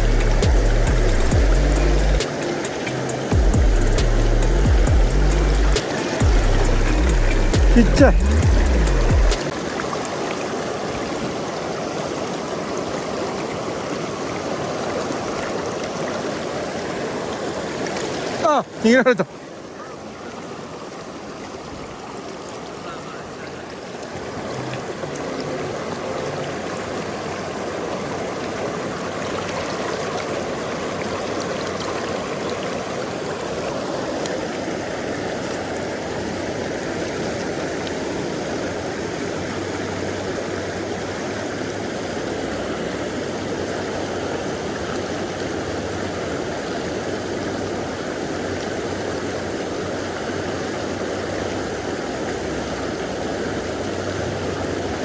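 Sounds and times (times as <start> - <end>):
river water rushing over rapids: 0.0 - 55.0.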